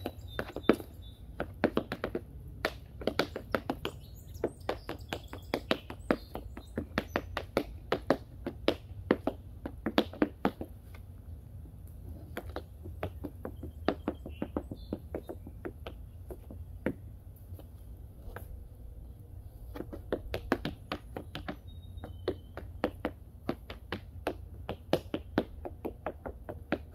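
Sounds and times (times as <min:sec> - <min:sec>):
tap shoes on a board: 0:00.0 - 0:11.1, 0:12.0 - 0:17.7, 0:19.7 - 0:26.9.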